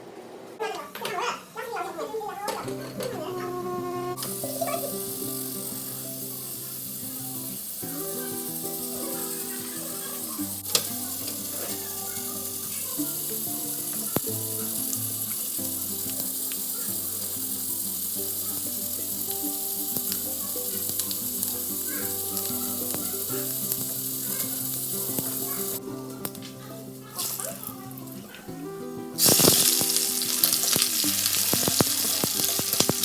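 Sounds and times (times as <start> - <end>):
food sizzling in hot oil: 4.1 - 28.2, 29.2 - 33.0.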